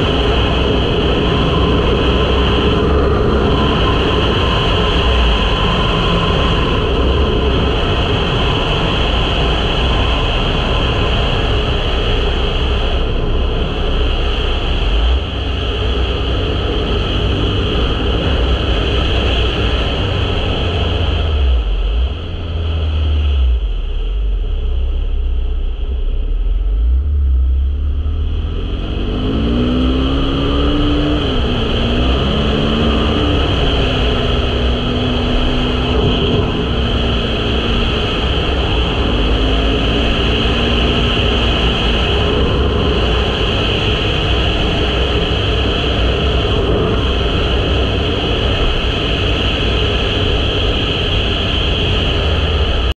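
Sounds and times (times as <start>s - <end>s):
motorcycle engine accelerating: 0.0s - 52.9s
wind rumble on microphone: 0.0s - 53.0s.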